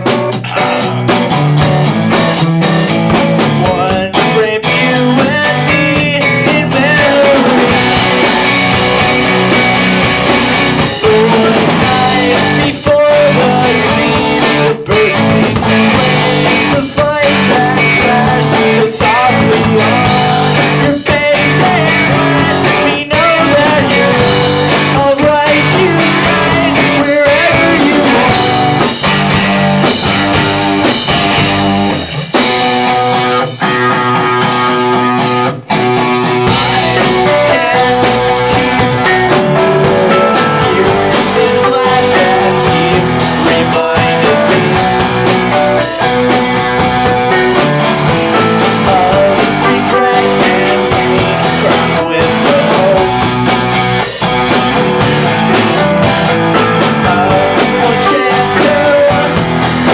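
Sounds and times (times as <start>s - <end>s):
bass guitar: 0.0s - 59.9s
drum kit: 0.0s - 59.9s
electric guitar: 0.0s - 59.9s
rock band playing live: 0.0s - 59.9s.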